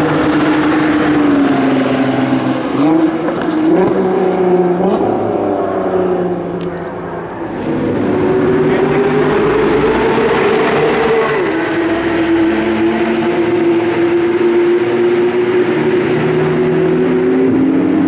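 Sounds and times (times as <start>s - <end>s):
car engine revving high: 0.0s - 18.0s.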